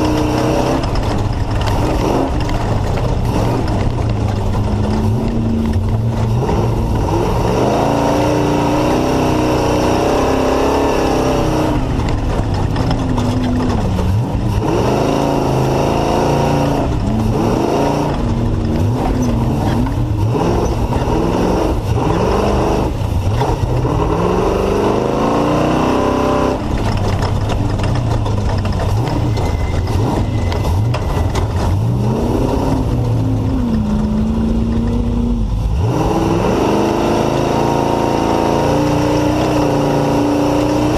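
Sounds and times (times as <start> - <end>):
race vehicle engine revving: 0.0 - 40.9
vehicle rattle: 0.0 - 40.9.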